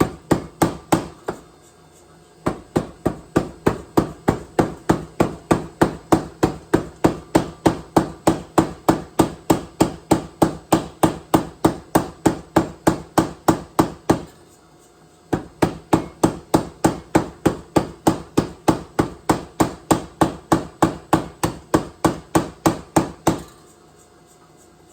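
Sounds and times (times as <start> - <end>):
power hammer striking hot metal: 0.0 - 1.4, 2.5 - 14.3, 15.4 - 23.6.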